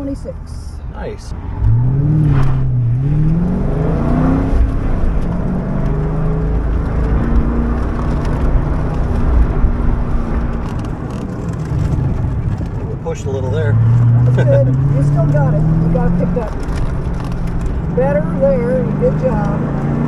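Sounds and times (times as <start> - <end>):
road and wind noise: 0.0 - 20.0
car engine revving: 0.9 - 20.0.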